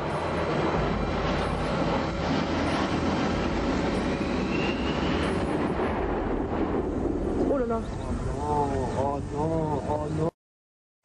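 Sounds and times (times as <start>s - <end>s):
faint rising whine: 0.0s - 10.3s
jet engines rushing: 0.0s - 10.3s.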